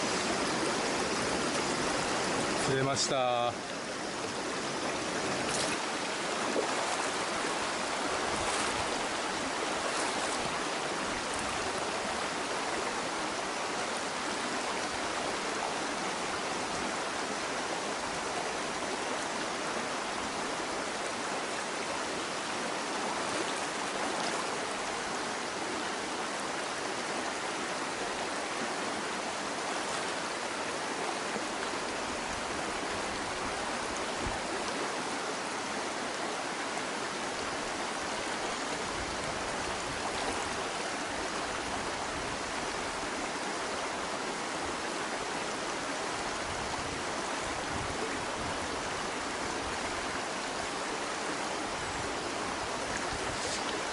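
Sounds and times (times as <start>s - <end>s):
stream running over rocks: 0.0s - 53.9s.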